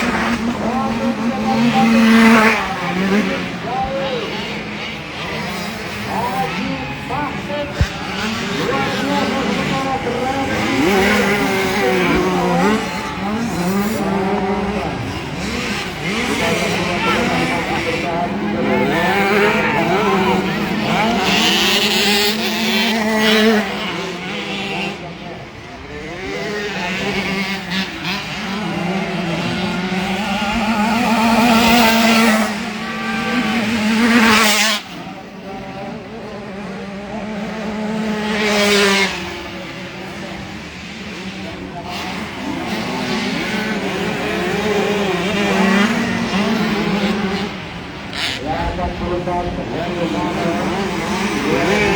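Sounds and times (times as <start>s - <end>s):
motocross bikes revving: 0.0s - 51.9s.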